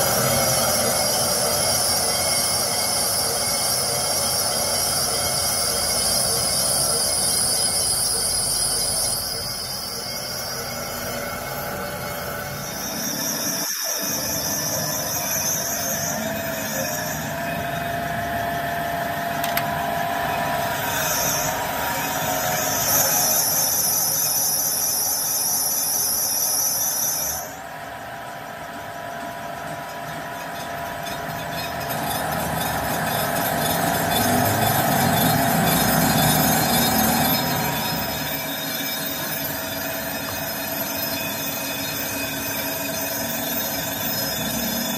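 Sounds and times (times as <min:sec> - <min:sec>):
grinding wheel hiss and squeal: 0:00.0 - 0:44.9.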